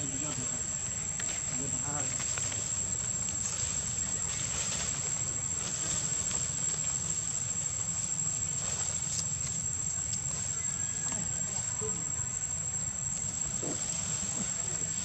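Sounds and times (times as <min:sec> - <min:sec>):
insects droning: 0:00.0 - 0:15.0
low steady rumble: 0:00.0 - 0:15.0.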